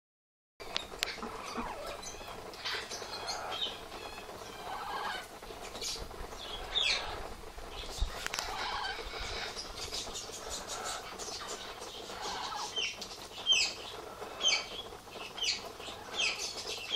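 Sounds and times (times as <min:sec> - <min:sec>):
parrots squawking: 0:01.0 - 0:16.9.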